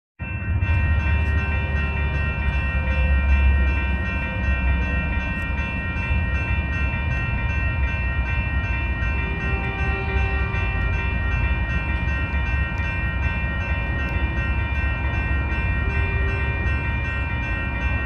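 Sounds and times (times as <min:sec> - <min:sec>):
low rumble of rail equipment: 0:00.2 - 0:18.0.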